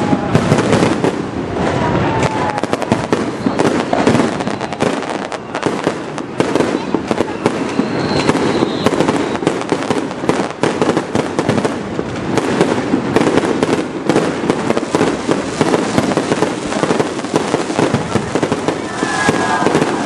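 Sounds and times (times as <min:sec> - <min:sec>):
fireworks bangs and pops: 0:00.0 - 0:20.0.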